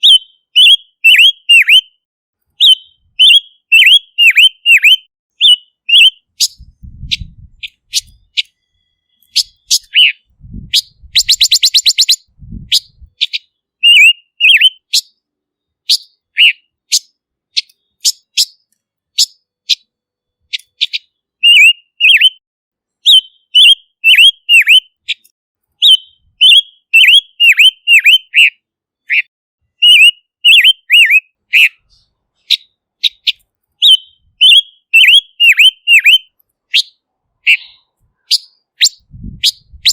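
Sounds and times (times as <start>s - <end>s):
bird whistled notes: 0.0s - 2.0s, 2.6s - 15.2s, 15.8s - 18.6s, 20.5s - 22.4s, 23.0s - 25.2s, 25.8s - 39.9s.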